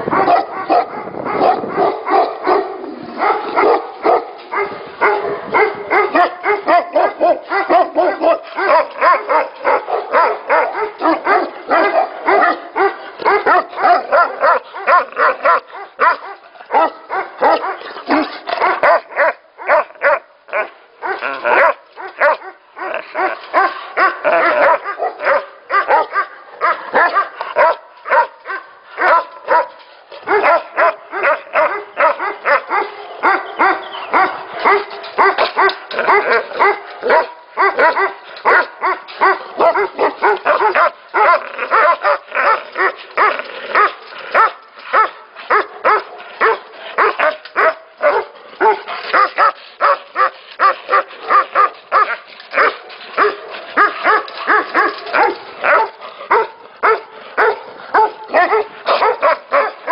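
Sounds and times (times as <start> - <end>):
many dogs barking: 0.0 - 59.9.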